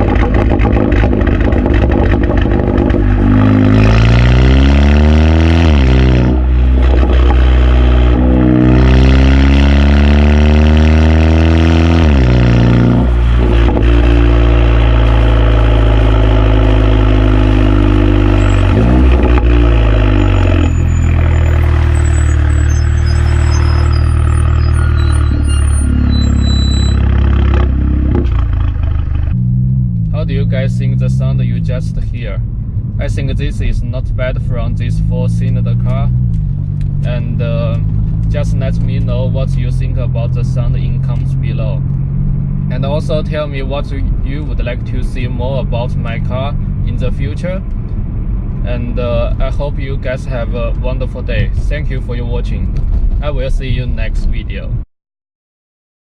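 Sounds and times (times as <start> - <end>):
car engine accelerating: 0.0 - 54.1.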